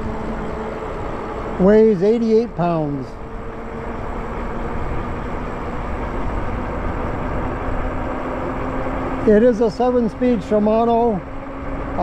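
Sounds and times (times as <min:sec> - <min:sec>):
electric bike road noise: 0:00.0 - 0:12.0.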